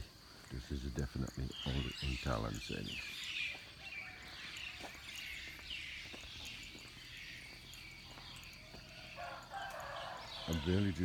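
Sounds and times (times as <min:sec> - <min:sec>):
birds calling: 0:00.0 - 0:11.0
high-pitched insect hum: 0:00.0 - 0:11.0.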